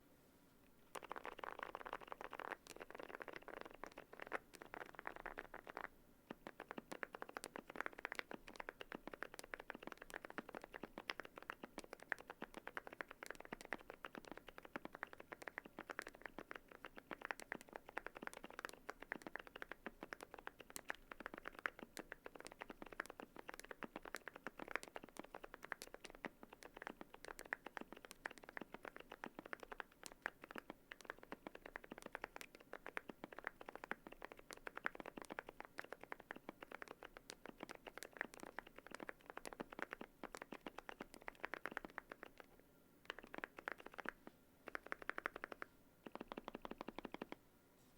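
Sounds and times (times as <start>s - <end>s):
mechanical keyboard typing: 0.9s - 47.4s.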